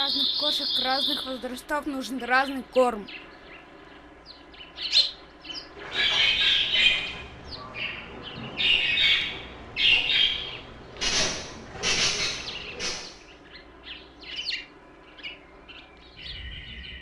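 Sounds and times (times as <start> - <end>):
small birds chirping and squawking: 0.0 - 17.0.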